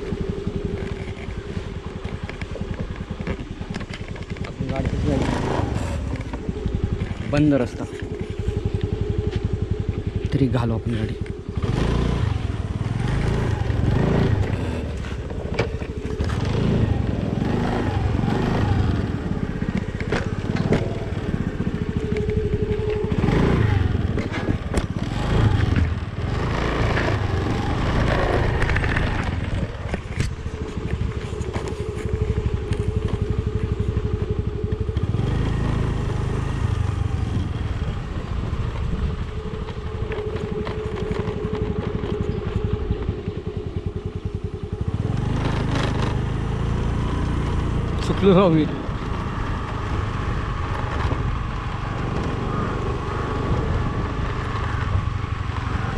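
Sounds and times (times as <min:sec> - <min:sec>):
motor scooter engine: 0:00.0 - 0:55.9.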